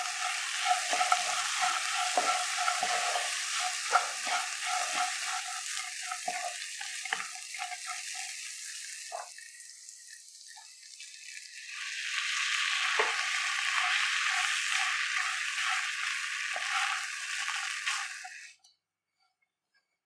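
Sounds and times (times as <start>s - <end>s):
food sizzling in a pan: 0.0s - 18.6s.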